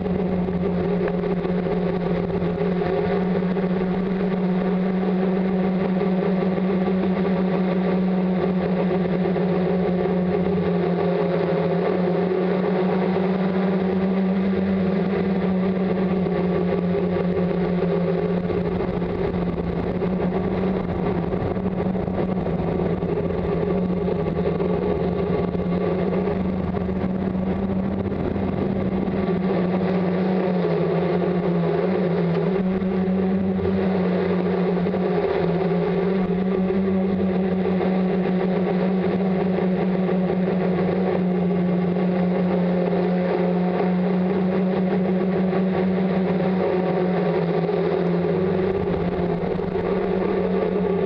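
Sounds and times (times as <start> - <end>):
drone motors humming: 0.0 - 51.0.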